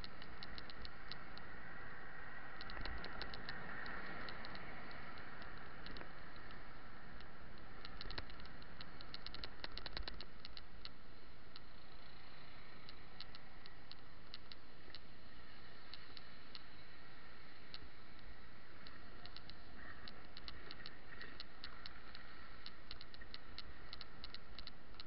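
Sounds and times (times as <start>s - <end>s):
bicycle ticking and clicking: 0.0s - 25.0s
road and wind noise: 0.0s - 25.0s.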